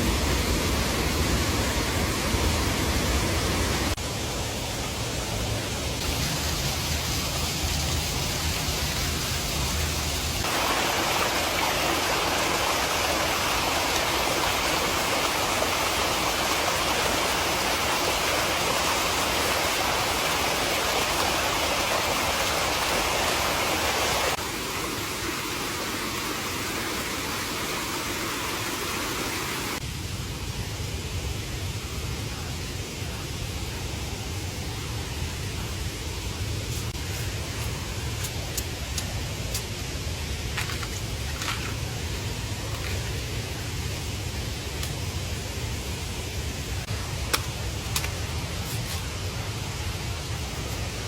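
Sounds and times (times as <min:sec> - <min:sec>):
rushing water: 0:00.0 - 0:29.8, 0:34.7 - 0:51.0.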